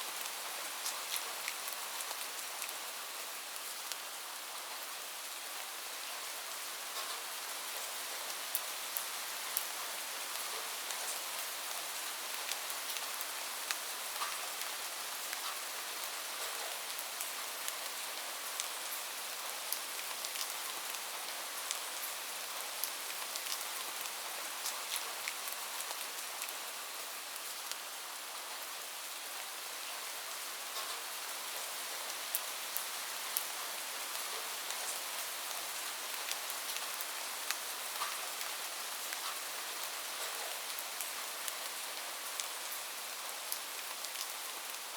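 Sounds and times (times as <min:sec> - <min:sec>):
light rain falling: 0:00.0 - 0:44.9.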